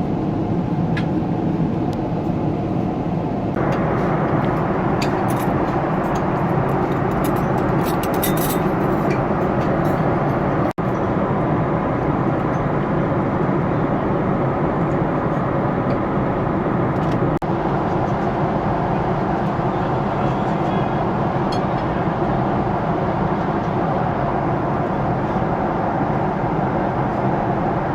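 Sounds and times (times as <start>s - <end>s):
airplane cabin engine hum: 0.0s - 27.9s.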